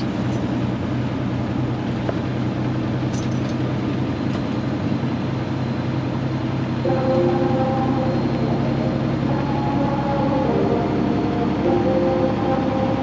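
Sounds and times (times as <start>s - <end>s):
diesel truck engine droning: 0.0s - 13.0s
road noise: 0.0s - 13.0s.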